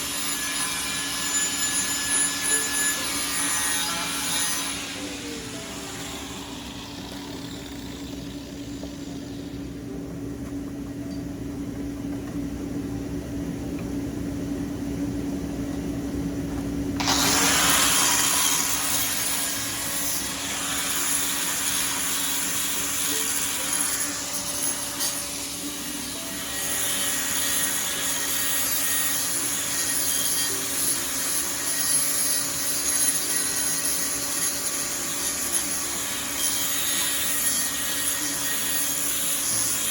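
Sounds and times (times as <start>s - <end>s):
angle grinder grinding metal: 0.0s - 9.7s, 17.0s - 39.9s.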